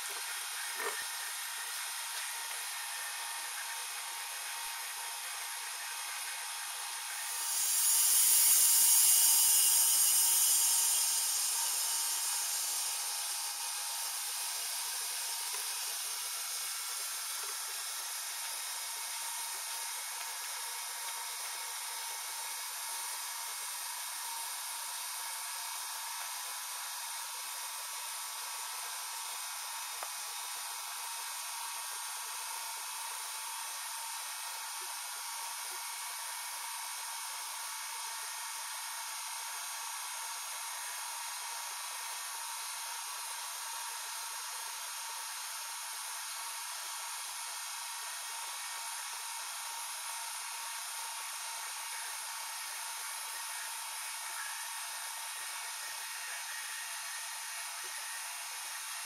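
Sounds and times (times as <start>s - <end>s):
vacuum pump whirring: 0.0s - 59.0s.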